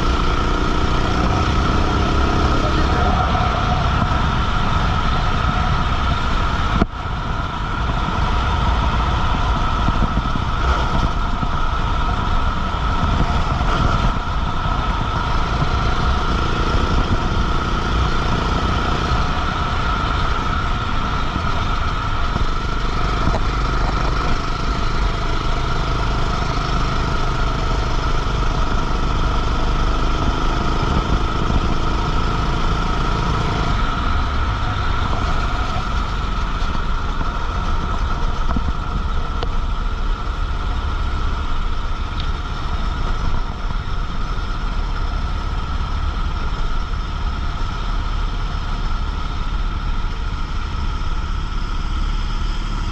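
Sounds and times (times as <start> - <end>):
go-kart engine running: 0.0 - 52.9
wind noise: 0.0 - 52.9.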